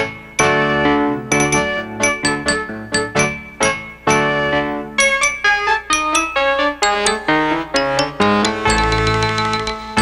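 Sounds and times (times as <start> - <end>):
instrumental credits music: 0.0 - 10.0.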